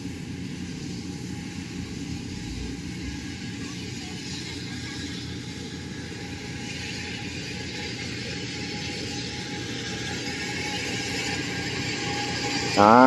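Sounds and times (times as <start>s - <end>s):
farm machinery engines droning: 0.0s - 13.0s.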